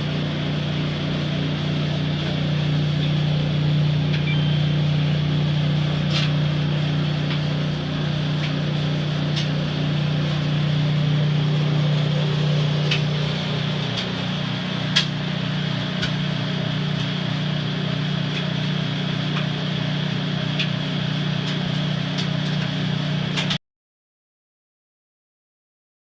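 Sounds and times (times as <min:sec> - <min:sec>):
dryer humming: 0:00.0 - 0:23.6.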